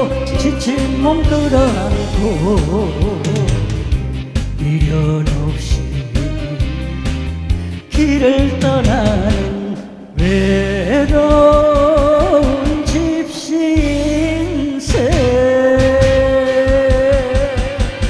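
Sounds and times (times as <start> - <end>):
man singing into a microphone: 0.0 - 6.7, 7.9 - 18.0
drum kit beat: 0.0 - 18.0
live band playing: 0.0 - 18.0.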